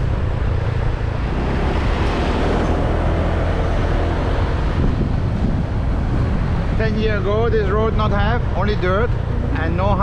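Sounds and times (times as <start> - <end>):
wind noise: 0.0 - 10.0.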